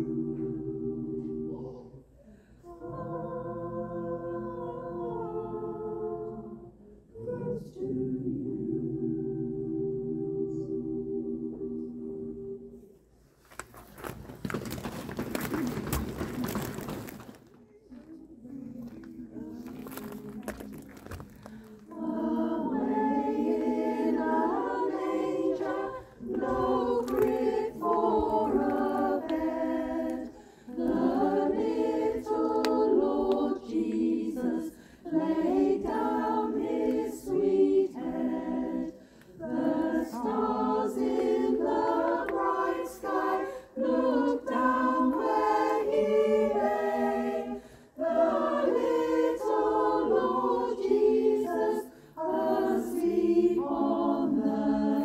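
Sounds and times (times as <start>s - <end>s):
choir singing unaccompanied: 0.0s - 12.9s, 18.2s - 20.9s, 21.8s - 55.0s.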